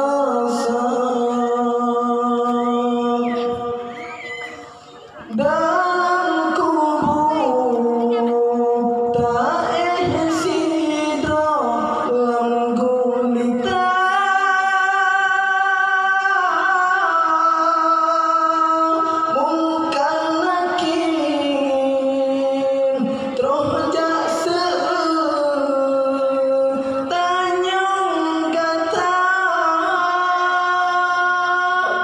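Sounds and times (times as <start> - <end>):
man singing into microphone: 0.0 - 32.0.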